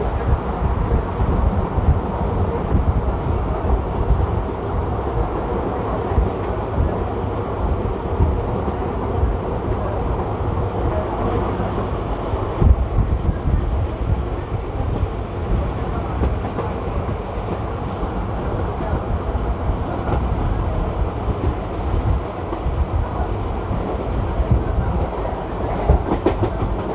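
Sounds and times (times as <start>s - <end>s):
gusty wind noise: 0.0s - 26.9s
train wheels rumbling on rails: 0.0s - 26.9s.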